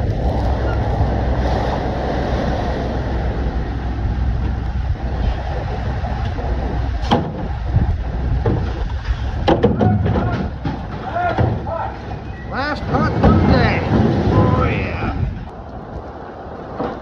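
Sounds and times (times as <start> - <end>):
boat engine running: 0.0 - 17.0
waves breaking against hull: 0.0 - 17.0
wind: 0.0 - 17.0.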